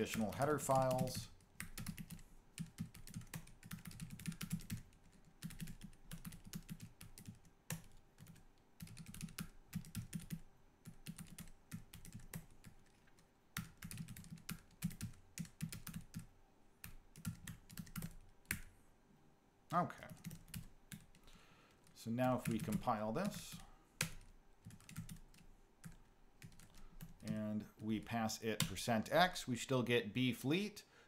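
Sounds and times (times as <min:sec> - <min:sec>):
computer keyboard typing: 0:00.0 - 0:18.7, 0:20.1 - 0:21.2, 0:22.2 - 0:27.4.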